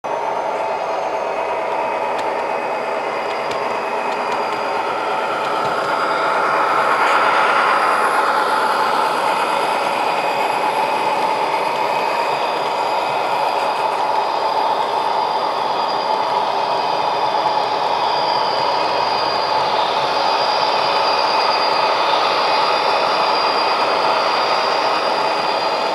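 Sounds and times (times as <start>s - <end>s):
locomotive motors whining: 0.1s - 25.9s
model train wheels rumbling: 0.1s - 25.9s.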